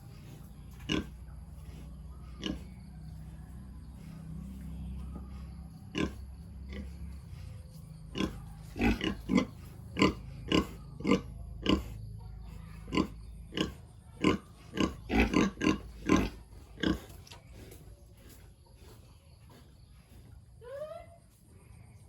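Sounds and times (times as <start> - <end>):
pigs grunting: 0.0 - 20.6.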